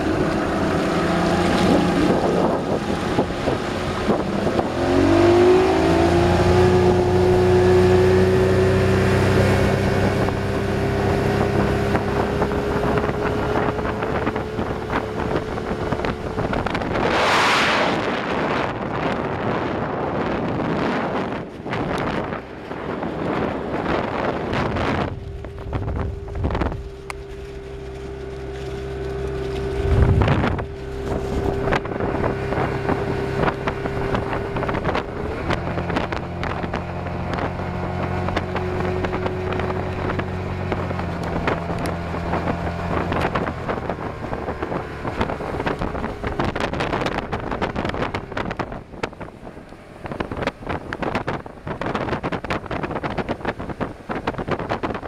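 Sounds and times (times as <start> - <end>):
outboard engine running: 0.0 - 55.0
water rushing past hull: 0.0 - 55.0
wind buffeting microphone: 0.0 - 55.0.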